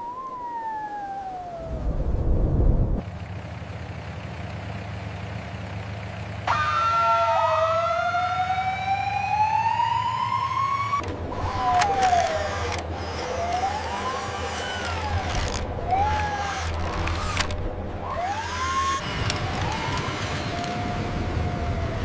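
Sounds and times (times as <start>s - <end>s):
siren wailing: 0.0s - 3.0s, 6.5s - 22.0s
low engine drone: 0.0s - 22.0s.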